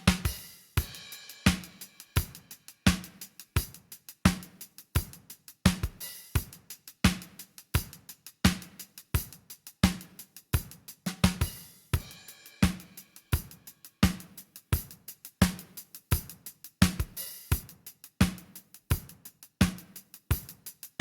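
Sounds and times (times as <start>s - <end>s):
drum kit groove: 0.0s - 21.0s.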